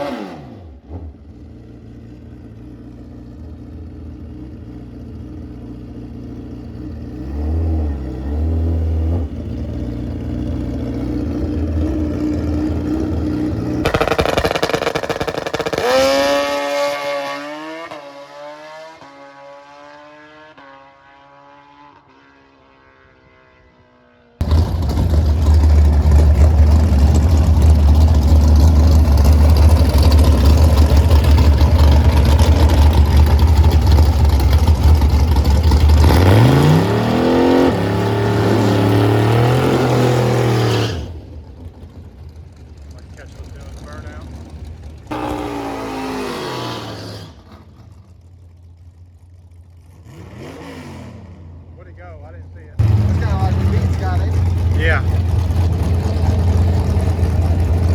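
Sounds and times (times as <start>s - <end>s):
deep engine rumble revving: 0.0s - 17.9s, 24.4s - 57.9s
drag racing engine at full throttle: 0.0s - 57.9s.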